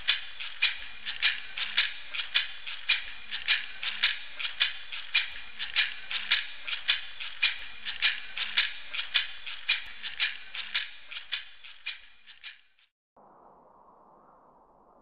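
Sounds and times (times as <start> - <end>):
rattle shaken rhythmically: 0.0 - 12.8.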